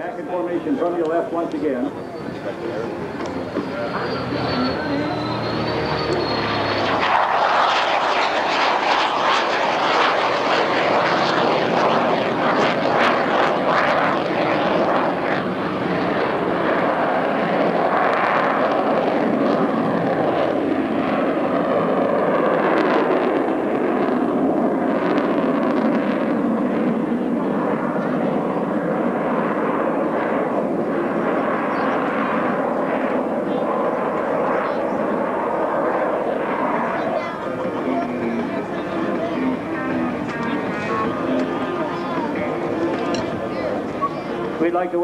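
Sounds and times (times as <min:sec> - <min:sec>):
jet flying past: 0:00.0 - 0:45.0.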